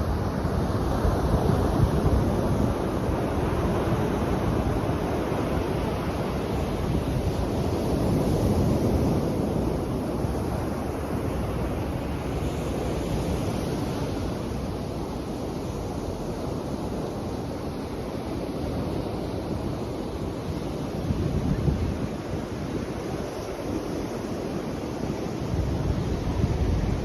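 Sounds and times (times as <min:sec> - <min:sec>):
waves washing ashore: 0:00.0 - 0:27.0.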